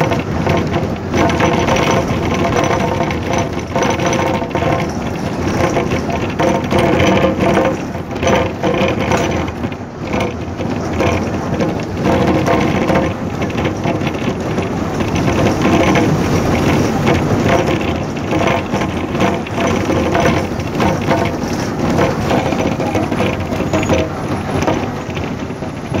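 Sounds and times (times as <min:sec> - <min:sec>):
road noise: 0:00.0 - 0:26.0
vehicle body rattling: 0:00.0 - 0:26.0
vehicle engine running: 0:00.0 - 0:26.0.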